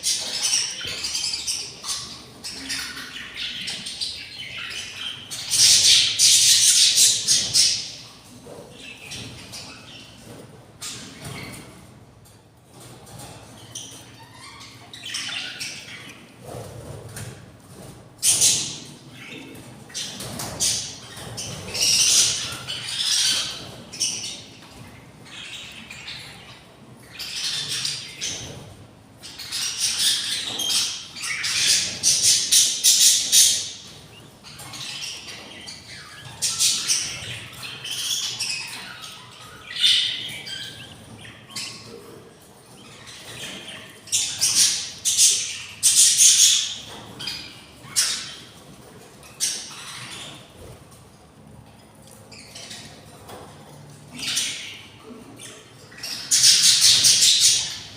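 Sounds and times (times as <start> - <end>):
chicks begging squawks: 0.0 - 11.9, 13.2 - 51.0.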